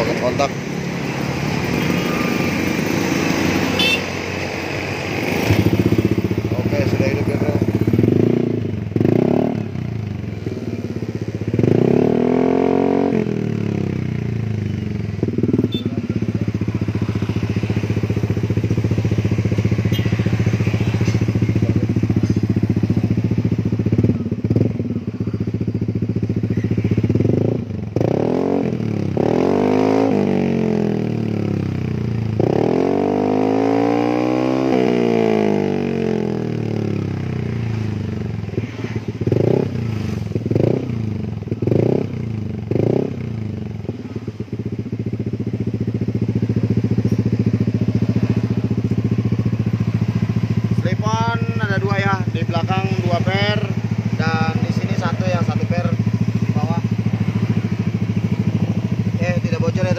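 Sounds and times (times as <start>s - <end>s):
scooter engine idling and revving: 0.0s - 59.9s.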